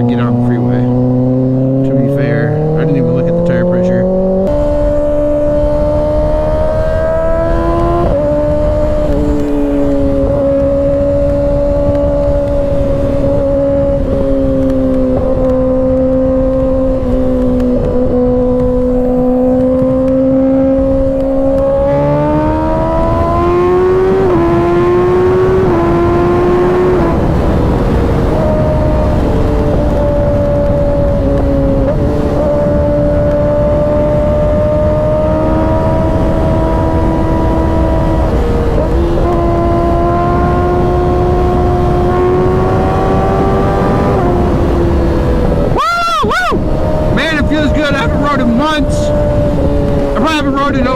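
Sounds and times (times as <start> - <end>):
motorcycle engine accelerating: 0.0 - 50.9
wind rushing over microphone: 0.0 - 50.9.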